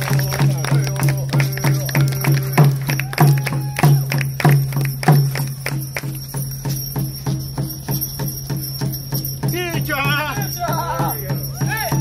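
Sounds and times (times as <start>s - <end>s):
steady drumbeat: 0.0s - 12.0s.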